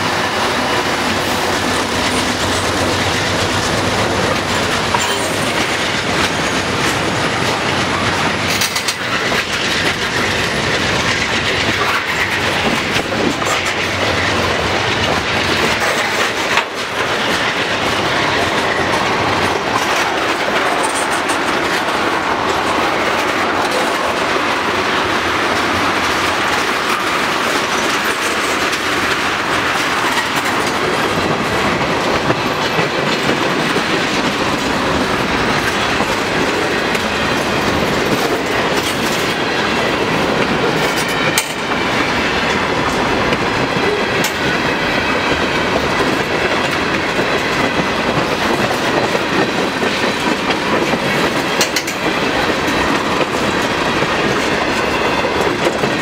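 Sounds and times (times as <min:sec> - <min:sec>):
train wheels rushing on rail: 0:00.0 - 0:56.0
wheels clicking over rail joints: 0:01.6 - 0:56.0.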